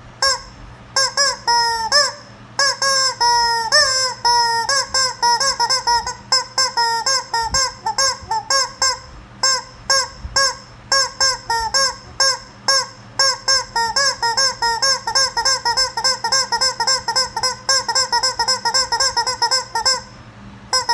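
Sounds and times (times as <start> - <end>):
rubber chicken toy squawking: 0.2 - 20.9.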